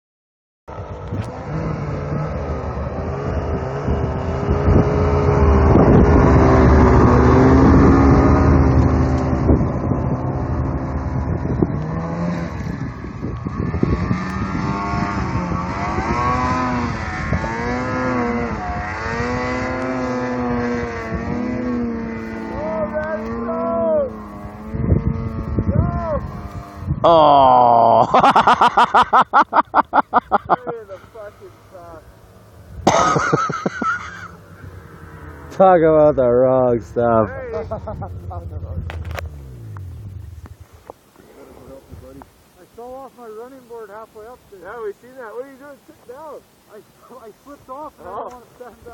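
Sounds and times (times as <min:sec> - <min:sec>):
snowmobile engines revving: 0:00.7 - 0:48.9.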